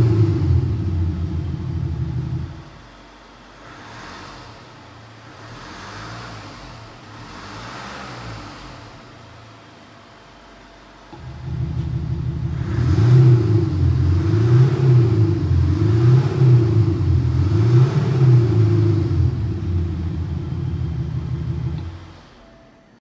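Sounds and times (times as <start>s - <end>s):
car engine revving: 0.0s - 10.1s, 11.1s - 22.4s
car engine idling: 0.0s - 22.7s.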